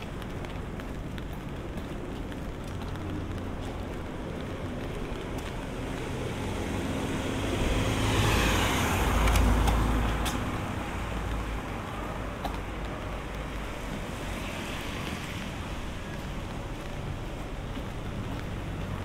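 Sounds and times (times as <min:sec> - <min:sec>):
light rain patter: 0:00.0 - 0:19.0
tyre hiss on wet street: 0:00.0 - 0:19.0
vehicle engine rumble: 0:00.0 - 0:19.0.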